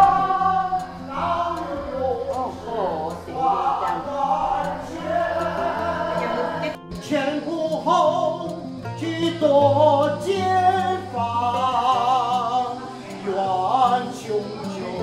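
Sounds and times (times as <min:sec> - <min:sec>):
instrumental accompaniment: 0:00.0 - 0:15.0
person singing mournful song: 0:00.0 - 0:15.0.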